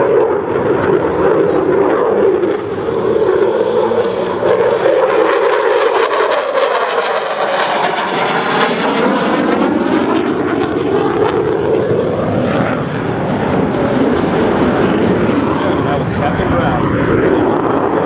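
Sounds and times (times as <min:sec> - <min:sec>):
jet engine roar flying past: 0:00.0 - 0:18.0.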